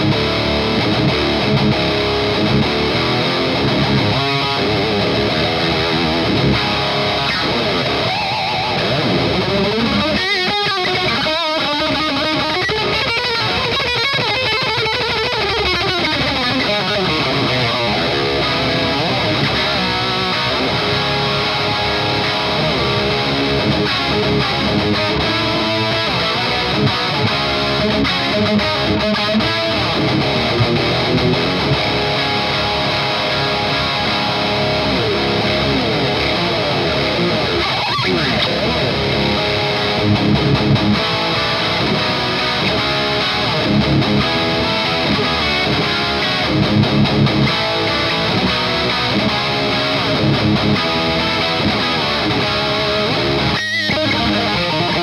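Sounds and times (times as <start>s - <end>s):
overdriven electric guitar: 0.0s - 55.0s.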